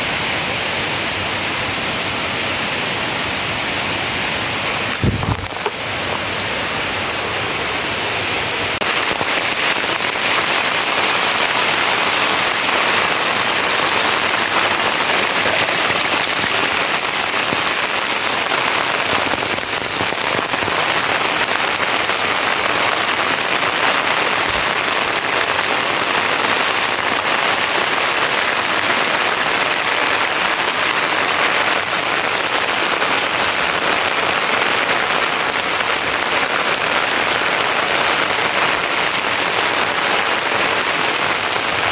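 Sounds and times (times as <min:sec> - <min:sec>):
heavy rain on hard surface: 0:00.0 - 0:41.9.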